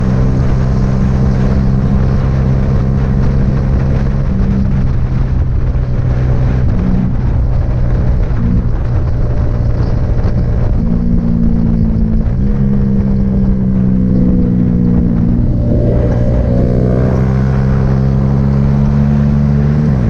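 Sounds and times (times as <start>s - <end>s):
motorcycle engine droning: 0.0s - 20.0s
rushing noise: 0.0s - 20.0s.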